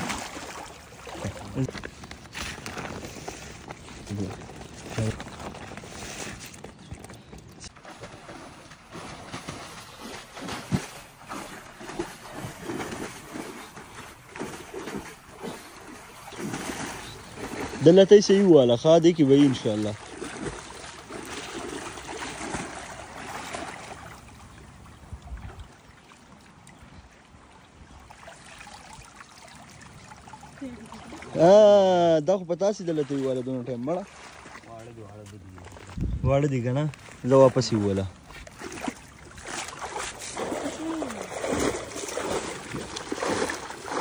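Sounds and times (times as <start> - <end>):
stream water splashing: 0.0 - 44.0.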